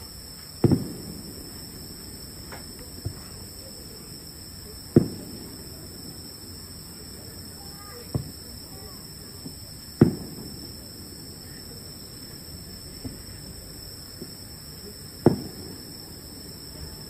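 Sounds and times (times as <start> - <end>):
faint fireworks pops: 0.0 - 17.0
fireworks booming: 0.0 - 17.0.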